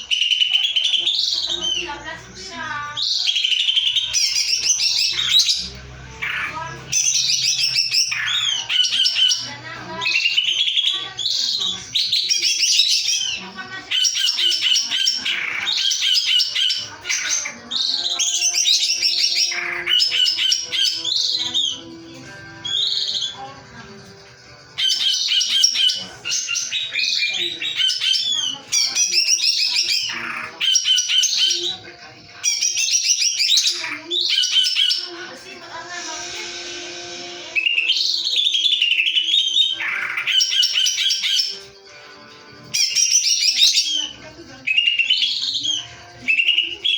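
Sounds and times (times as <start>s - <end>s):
bird chattering and whistling: 0.0s - 2.0s, 2.9s - 21.9s, 24.8s - 35.1s, 37.5s - 41.8s, 42.7s - 46.9s.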